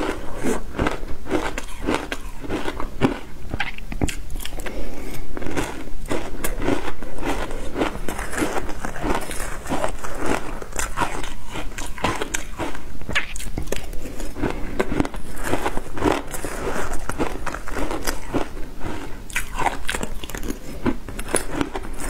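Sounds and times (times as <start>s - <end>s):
ice being chewed: 0.0s - 22.0s.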